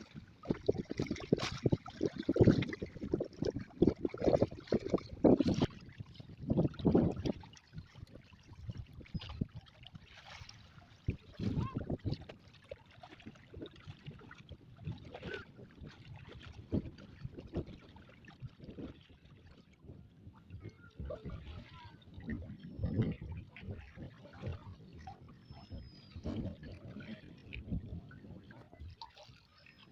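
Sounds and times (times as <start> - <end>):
faint water sounds: 0.0 - 29.9.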